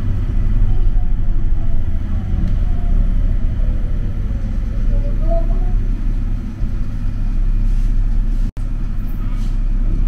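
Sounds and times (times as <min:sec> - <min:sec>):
rail car rumbling: 0:00.0 - 0:10.0.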